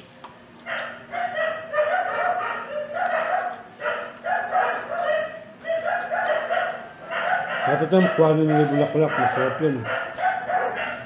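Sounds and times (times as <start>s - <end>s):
dog barking and yipping: 0.6s - 11.0s.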